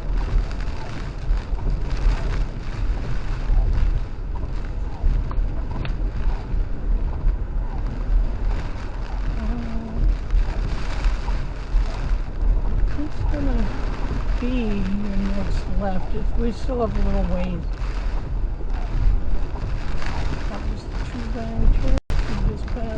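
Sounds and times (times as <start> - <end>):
wind and rain: 0.0 - 22.9.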